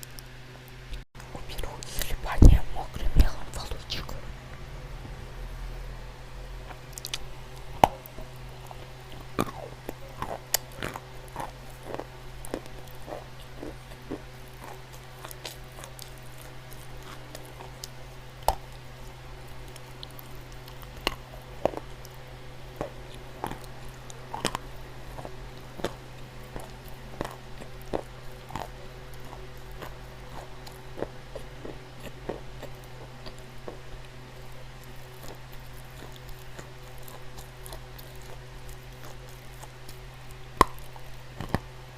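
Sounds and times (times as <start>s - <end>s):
steady low hum: 0.0s - 41.9s
dry clay crunching and cracking: 6.7s - 41.7s.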